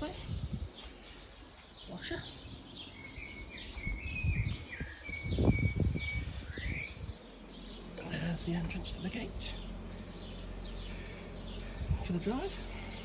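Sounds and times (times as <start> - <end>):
low rumble on microphone: 0.0 - 1.4, 2.4 - 13.0
small birds chirping: 0.0 - 13.0.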